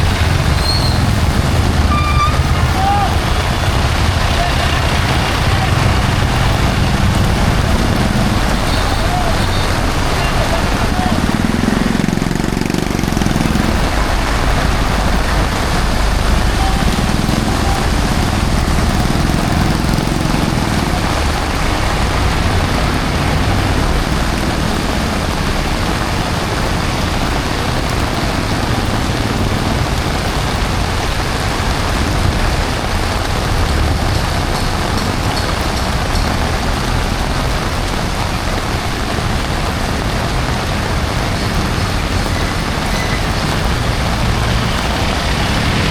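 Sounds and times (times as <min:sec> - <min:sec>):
heavy rain: 0:00.0 - 0:45.9
low vehicle rumble: 0:00.0 - 0:45.9
road traffic: 0:00.0 - 0:45.9.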